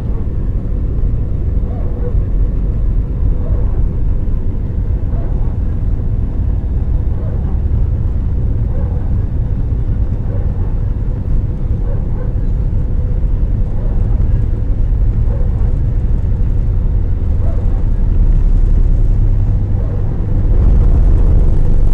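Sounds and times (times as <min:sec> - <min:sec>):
airplane cabin low rumble: 0:00.0 - 0:21.9.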